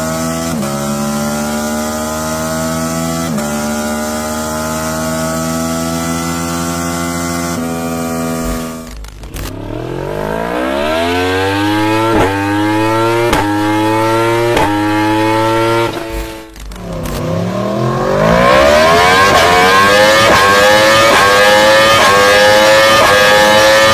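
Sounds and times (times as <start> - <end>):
motorcycle engine accelerating hard: 0.0 - 23.9.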